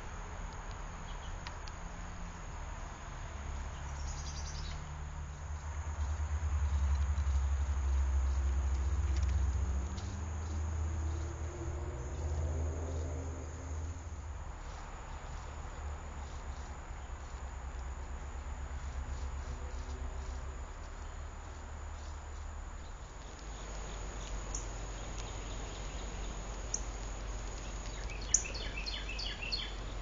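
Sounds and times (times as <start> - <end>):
insects chirping: 0.0 - 30.0
steady low rumble: 0.0 - 30.0.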